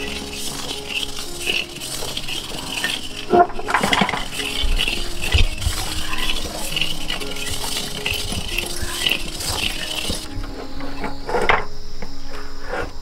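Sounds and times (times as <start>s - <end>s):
metal ladle scraping wok: 0.0s - 11.7s
rice grains rustling: 0.0s - 13.0s.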